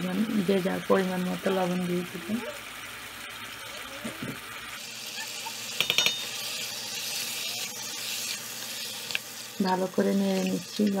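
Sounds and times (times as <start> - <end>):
pumpkin sizzling in pot: 0.0 - 11.0.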